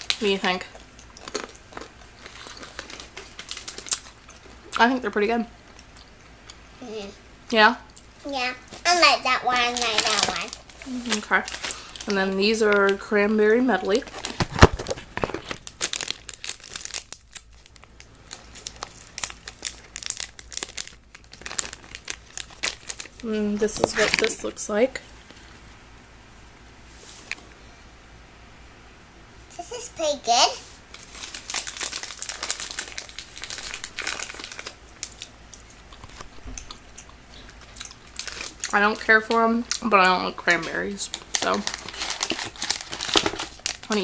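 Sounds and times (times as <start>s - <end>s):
plastic snack bag crinkling: 0.0s - 6.2s, 8.7s - 25.6s, 30.5s - 44.0s.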